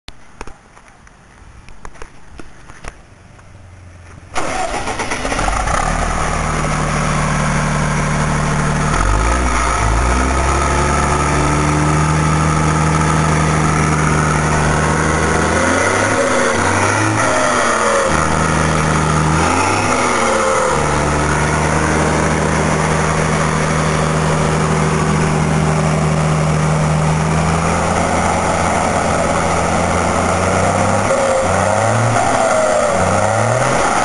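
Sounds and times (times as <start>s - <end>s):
diesel truck engine running: 3.6s - 34.0s.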